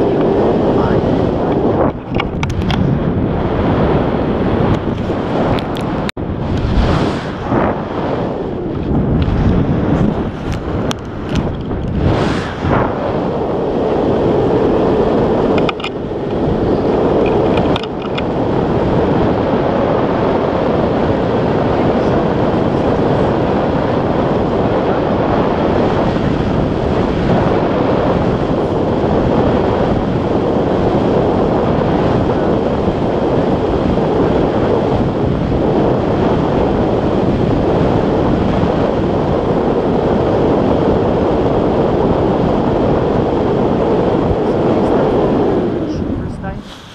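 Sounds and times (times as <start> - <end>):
wind on microphone: 0.0 - 46.9.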